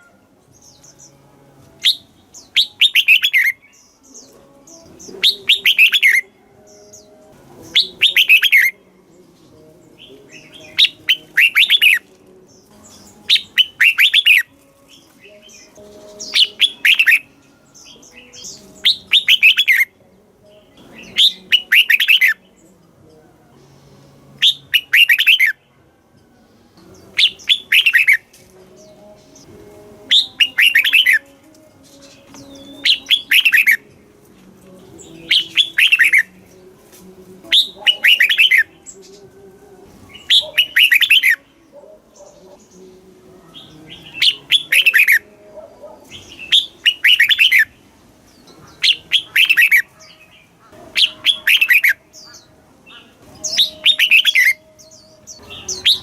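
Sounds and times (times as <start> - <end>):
bulbul singing whistled notes: 0.0 - 22.9, 23.5 - 25.8, 26.6 - 34.2, 34.9 - 45.4, 46.0 - 56.0.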